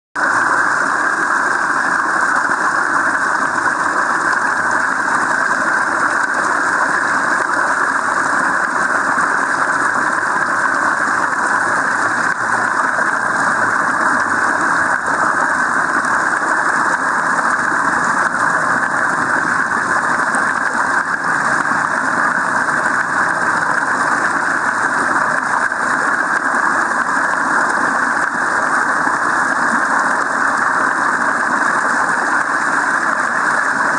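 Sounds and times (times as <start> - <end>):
stream water rushing: 0.2 - 33.9.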